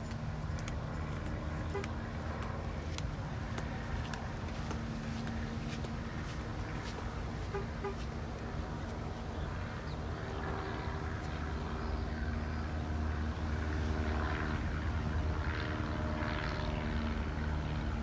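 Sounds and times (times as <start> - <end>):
propeller plane droning overhead: 0.0 - 18.0.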